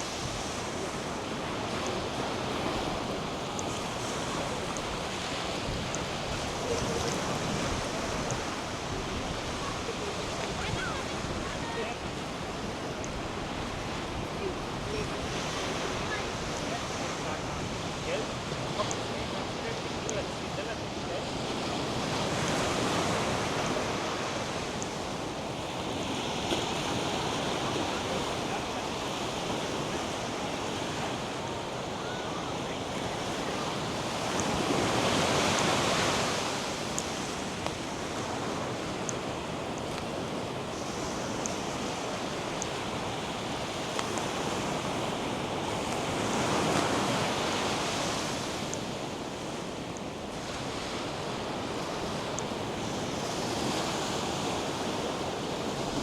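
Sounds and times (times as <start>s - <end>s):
waves breaking on sand: 0.0s - 56.0s.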